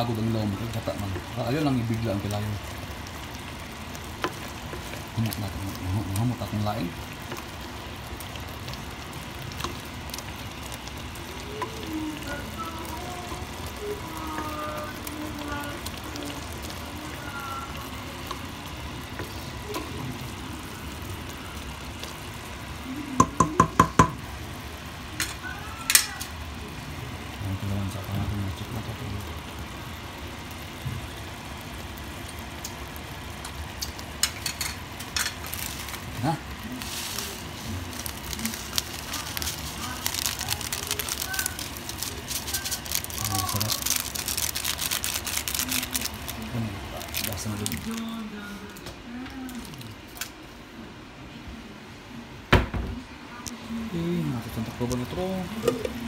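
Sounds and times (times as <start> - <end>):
food simmering and sizzling in pot: 0.0 - 52.5, 53.1 - 56.0.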